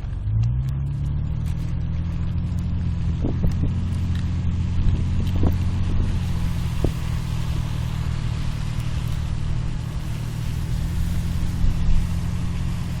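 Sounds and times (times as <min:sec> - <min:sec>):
constant rushing noise: 0:00.0 - 0:13.0
engine running steadily: 0:00.0 - 0:13.0.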